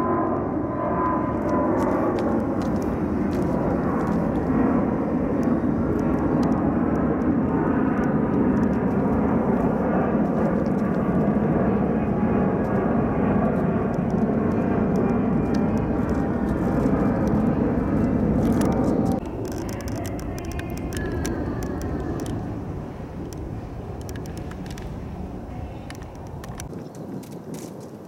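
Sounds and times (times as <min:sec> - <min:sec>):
airliner rumble overhead: 0:00.0 - 0:28.0.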